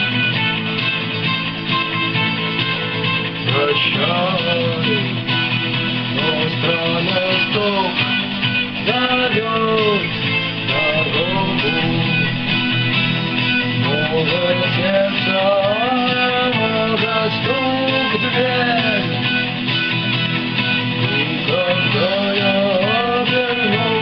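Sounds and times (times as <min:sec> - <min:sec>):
lead guitar melody with bent notes: 0:00.0 - 0:24.0
rhythm guitar backing: 0:00.0 - 0:24.0.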